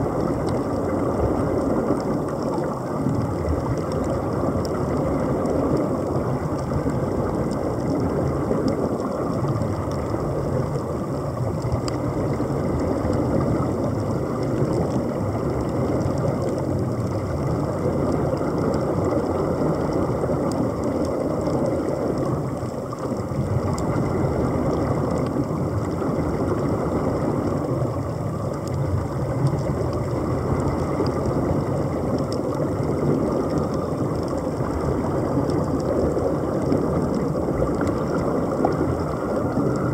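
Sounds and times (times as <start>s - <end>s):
air bubbling underwater: 0.0s - 39.9s
underwater machine rumble: 0.0s - 39.9s.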